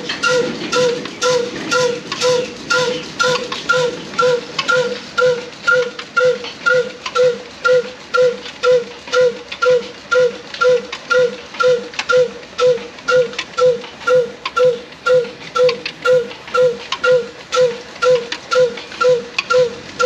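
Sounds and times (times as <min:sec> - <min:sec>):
diesel engine running: 0:00.0 - 0:20.0
stone mill grinding: 0:00.0 - 0:20.0.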